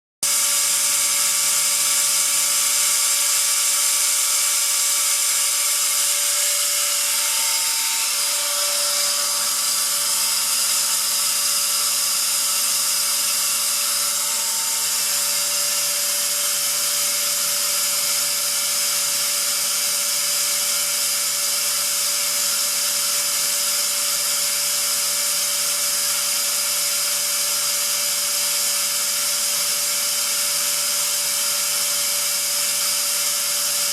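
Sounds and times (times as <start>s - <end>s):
air compressor whine: 0.2s - 33.9s.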